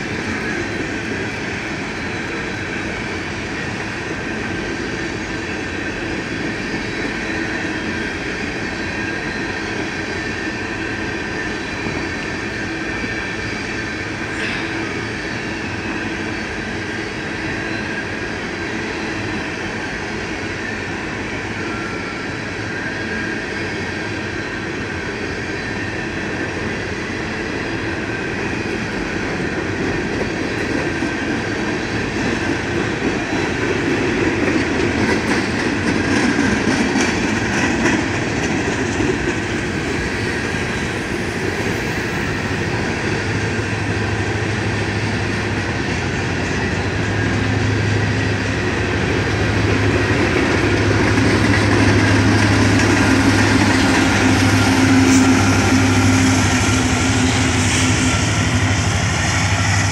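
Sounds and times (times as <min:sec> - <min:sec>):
freight train rolling past: 0:00.0 - 0:59.9
high wheel squeal: 0:00.0 - 0:59.9.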